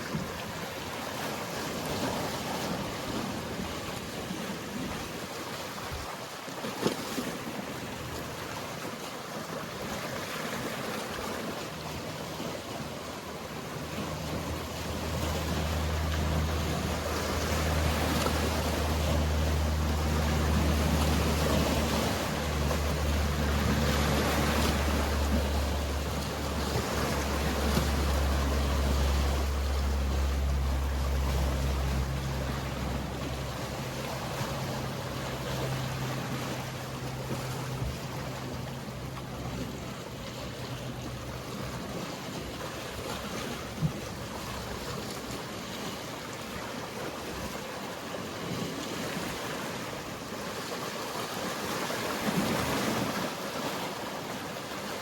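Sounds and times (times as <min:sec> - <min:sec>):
sea water washing: 0:00.0 - 0:55.0
boat engine drone: 0:07.2 - 0:55.0.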